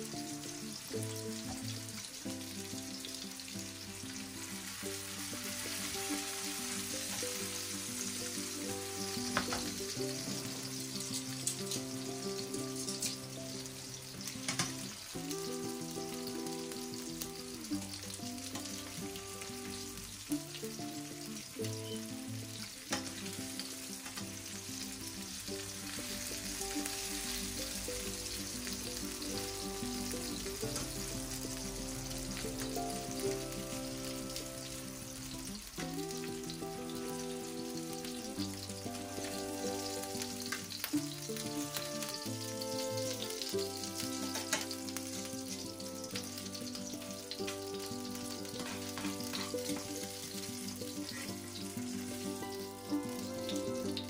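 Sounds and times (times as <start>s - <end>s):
fish sizzling in hot oil: 0.0s - 54.0s
soft background music: 0.0s - 54.0s.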